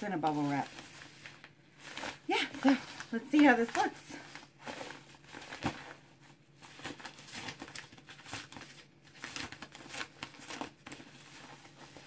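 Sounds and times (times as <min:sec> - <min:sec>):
bubble mailer crinkling: 0:00.0 - 0:12.0.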